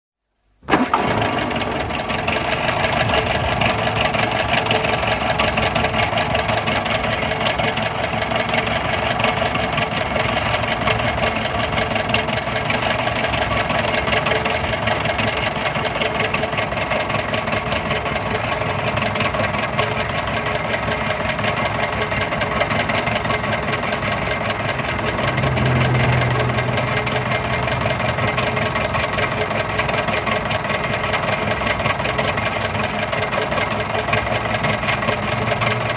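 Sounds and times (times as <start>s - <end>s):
car engine starting and idling: 0.5s - 35.9s.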